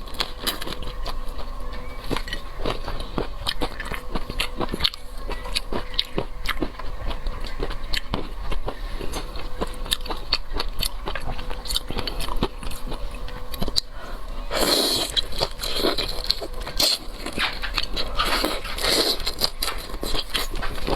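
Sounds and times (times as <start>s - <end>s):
crunchy chewing: 0.0s - 20.9s.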